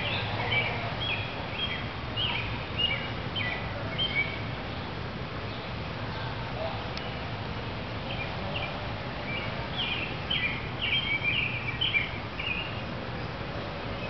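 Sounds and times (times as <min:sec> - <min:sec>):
small bird singing: 0:00.0 - 0:06.3, 0:08.1 - 0:13.3.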